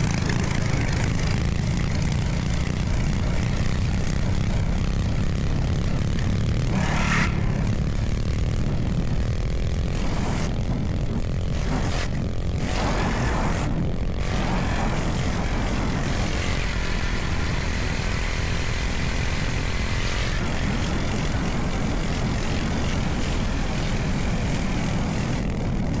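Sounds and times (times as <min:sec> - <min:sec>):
low rumble: 0:00.0 - 0:26.0
small motorbike engine running: 0:00.0 - 0:26.0.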